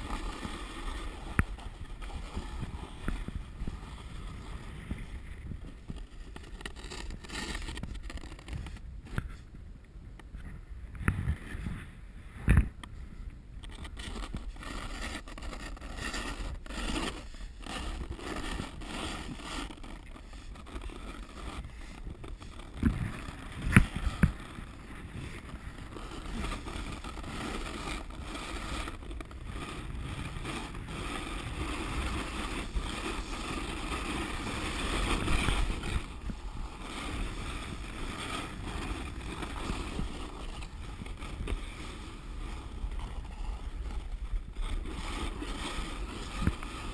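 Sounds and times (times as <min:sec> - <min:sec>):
snowboard scraping on snow: 0:00.0 - 0:09.4, 0:13.8 - 0:46.9
wind on microphone: 0:00.0 - 0:46.9.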